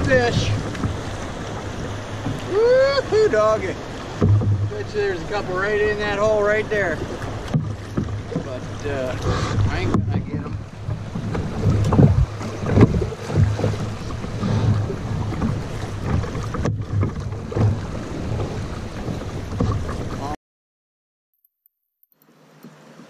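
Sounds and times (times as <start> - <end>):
wind buffeting microphone: 0.0 - 20.3.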